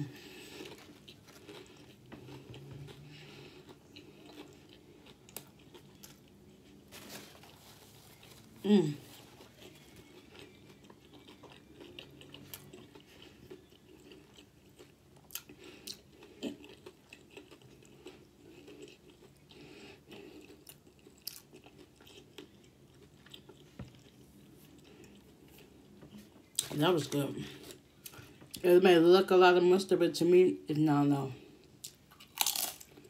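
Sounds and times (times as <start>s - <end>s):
person chewing crunchy food: 0.0s - 28.6s, 31.6s - 33.0s.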